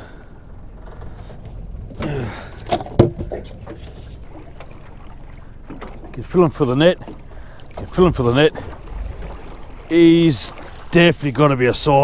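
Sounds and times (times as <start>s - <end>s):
wind and water noise: 0.0s - 12.0s.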